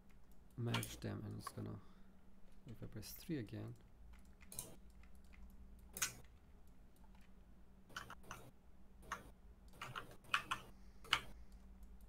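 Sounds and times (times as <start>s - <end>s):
keyboard and mouse clicks: 0.0s - 1.6s, 3.7s - 12.0s
faint steady hum: 0.0s - 12.0s.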